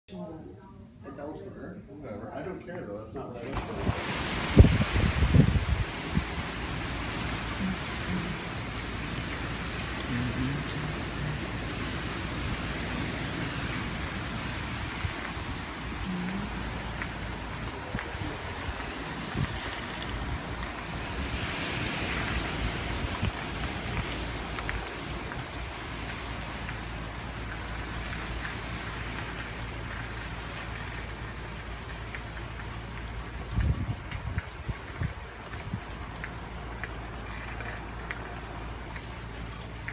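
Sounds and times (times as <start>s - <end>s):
driving rain: 3.4s - 39.9s
hurricane wind gusts: 3.5s - 39.9s.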